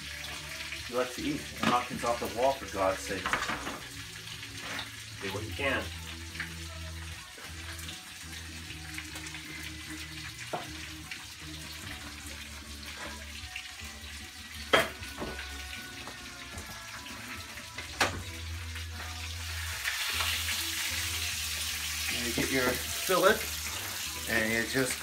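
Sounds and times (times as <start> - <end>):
fish sizzling in hot oil: 0.0 - 25.0.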